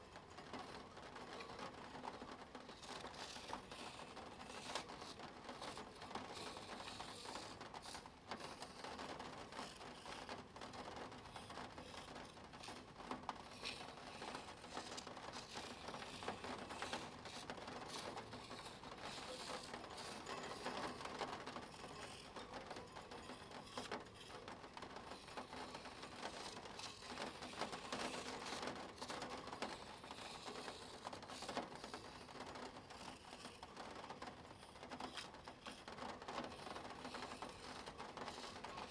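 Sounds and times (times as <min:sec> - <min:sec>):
pen scratching on paper: 0:00.5 - 0:38.9.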